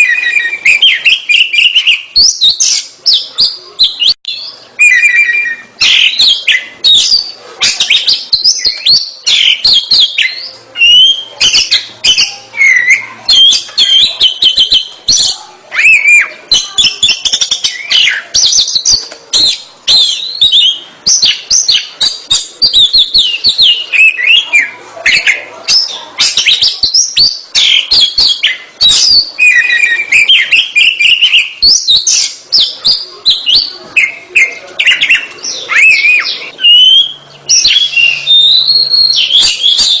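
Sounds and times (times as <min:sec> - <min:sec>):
bird singing varied whistles: 0:00.0 - 0:40.0.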